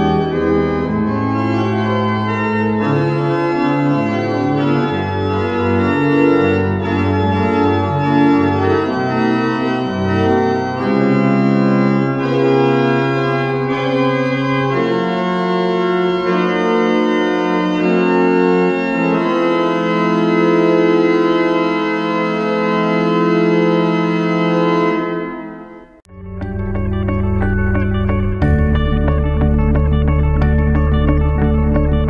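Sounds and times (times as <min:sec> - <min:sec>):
organ playing sustained chords: 0:00.0 - 0:32.0.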